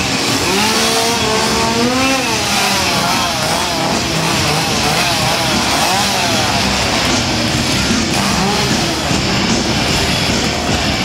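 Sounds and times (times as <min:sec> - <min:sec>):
chainsaws revving: 0:00.0 - 0:11.0.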